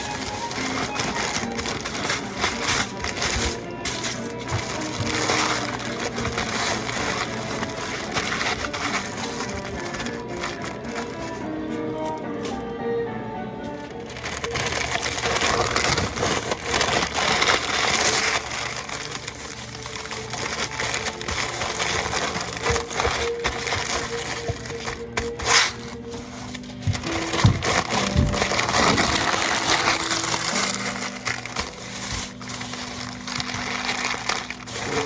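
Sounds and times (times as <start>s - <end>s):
kitchen food prep noise: 0.0s - 12.6s, 13.6s - 35.0s
background music: 0.0s - 35.0s.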